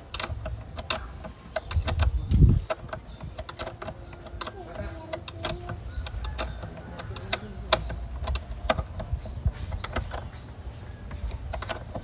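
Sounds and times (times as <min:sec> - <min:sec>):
tool clicks and metallic taps: 0:00.0 - 0:12.0.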